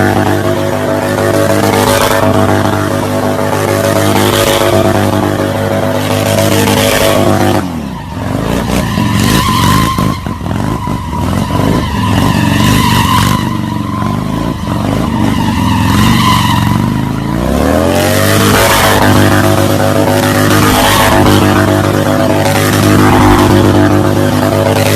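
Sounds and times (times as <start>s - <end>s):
engine crackles and blips: 0.0s - 24.9s
racing motorcycle engine revving: 0.0s - 24.9s.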